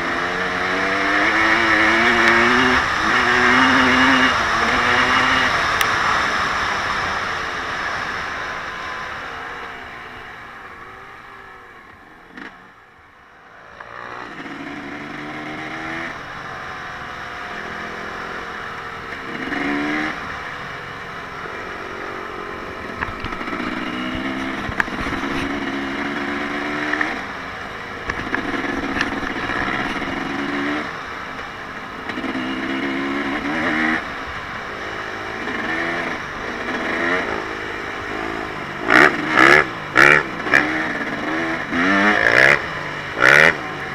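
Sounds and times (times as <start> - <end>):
off-road vehicle engine revving: 0.0 - 11.5, 13.6 - 20.2, 21.4 - 27.2, 27.9 - 43.9.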